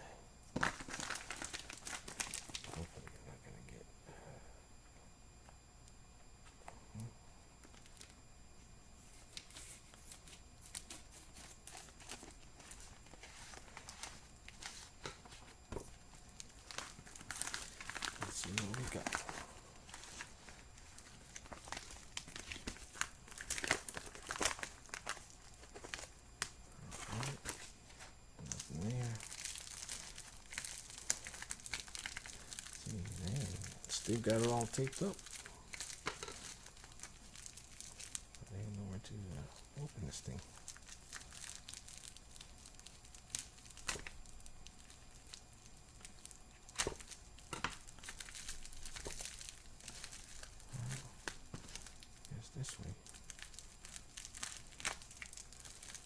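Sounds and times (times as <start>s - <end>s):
package crinkling and tearing: 0.6s - 3.1s, 7.6s - 8.1s, 9.3s - 27.7s, 28.4s - 56.0s.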